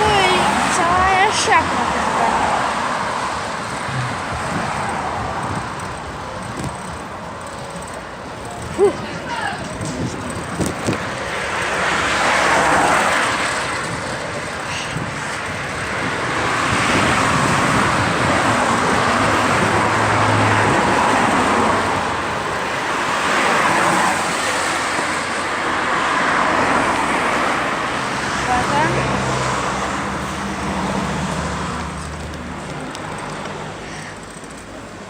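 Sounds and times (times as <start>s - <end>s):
rushing noise of bicycle ride: 0.0s - 35.0s.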